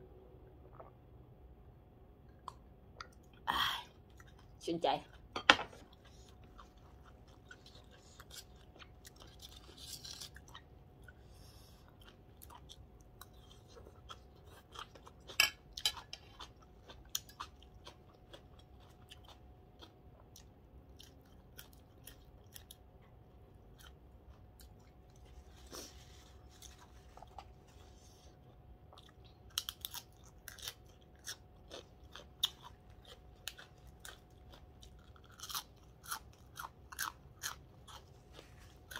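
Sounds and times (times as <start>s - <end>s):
person chewing crunchy food: 4.0s - 4.6s, 5.7s - 38.9s.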